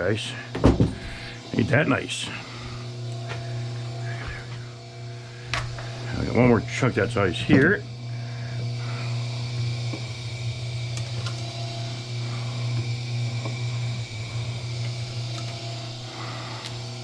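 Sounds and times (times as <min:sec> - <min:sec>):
machine motor hum: 0:00.0 - 0:17.0.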